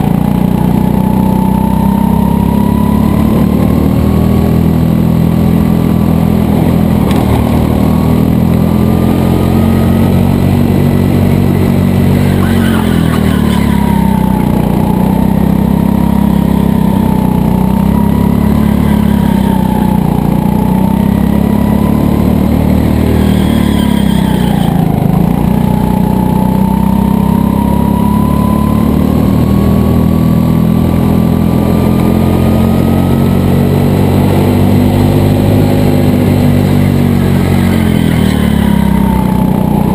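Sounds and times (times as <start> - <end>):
go-kart engine running: 0.0 - 39.9
high whine: 0.0 - 39.9.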